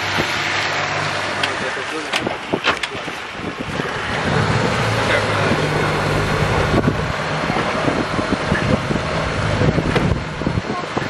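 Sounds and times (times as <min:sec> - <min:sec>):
boat motor humming: 0:00.0 - 0:11.0
wind buffeting microphone: 0:01.6 - 0:11.0.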